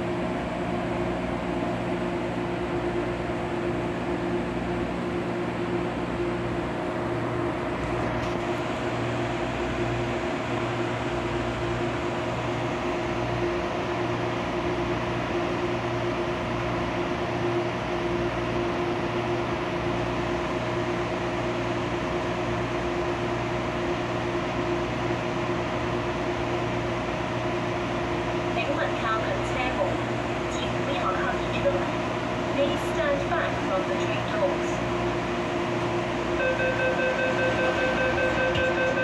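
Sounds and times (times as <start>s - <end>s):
train machinery hum: 0.0s - 39.0s.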